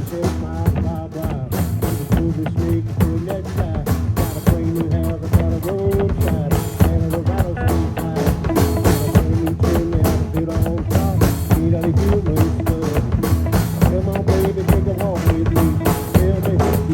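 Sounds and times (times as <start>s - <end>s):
drum kit steady beat: 0.0s - 16.9s
guitar line: 0.0s - 16.9s.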